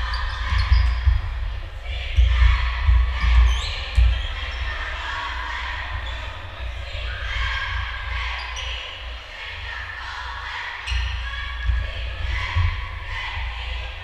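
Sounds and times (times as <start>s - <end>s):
chatter of voices: 0.0s - 14.0s.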